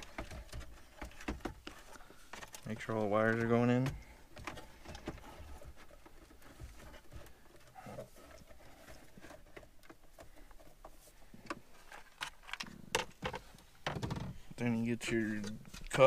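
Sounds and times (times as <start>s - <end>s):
car stereo clicking and scraping: 0.0s - 14.4s.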